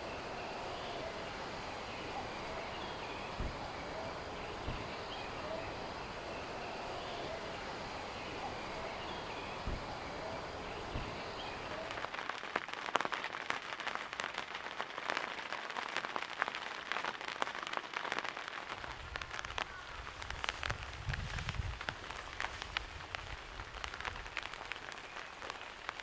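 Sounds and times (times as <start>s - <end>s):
rain drops striking a surface: 0.0s - 26.0s
steady rain hiss: 0.0s - 26.0s.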